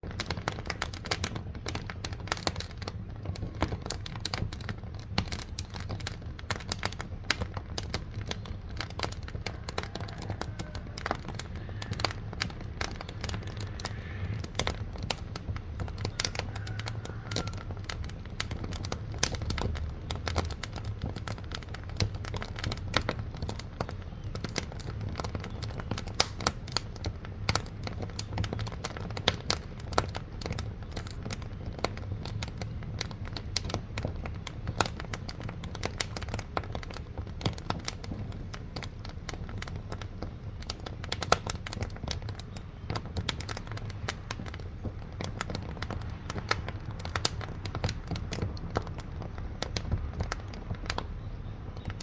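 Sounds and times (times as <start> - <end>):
wood fire crackling in stove: 0.0 - 52.0.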